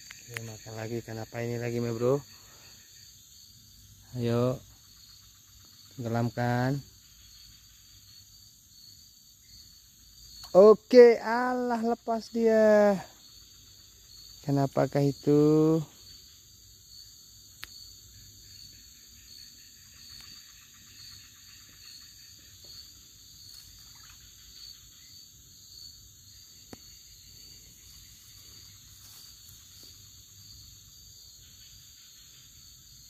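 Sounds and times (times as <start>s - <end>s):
insect chorus buzzing: 0.0s - 33.0s.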